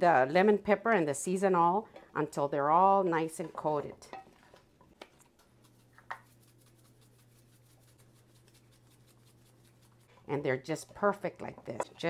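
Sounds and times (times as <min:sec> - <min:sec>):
faint low hum: 0:00.2 - 0:12.0.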